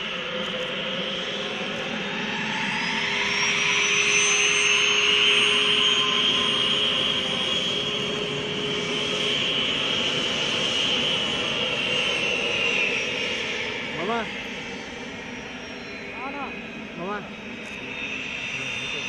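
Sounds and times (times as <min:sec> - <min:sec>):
airplane engines whining: 0:00.0 - 0:19.0.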